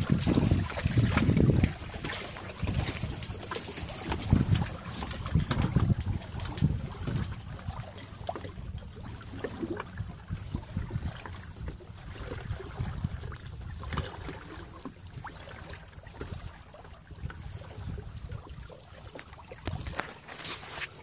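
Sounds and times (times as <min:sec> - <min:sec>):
wind buffeting microphone: 0:00.0 - 0:18.8
water rushing along hull: 0:00.0 - 0:21.0.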